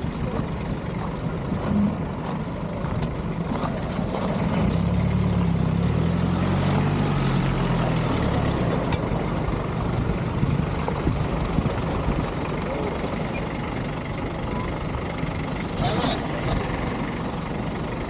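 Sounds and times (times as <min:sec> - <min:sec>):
heavy engine running: 0:00.0 - 0:18.0
outdoor background noise: 0:00.0 - 0:18.0.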